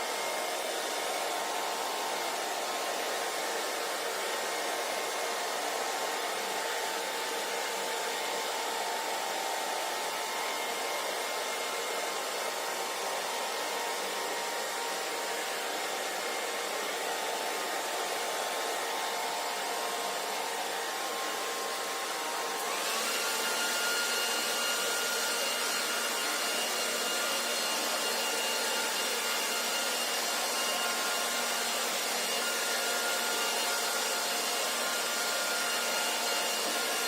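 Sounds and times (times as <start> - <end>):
hair dryer running: 0.0 - 37.0.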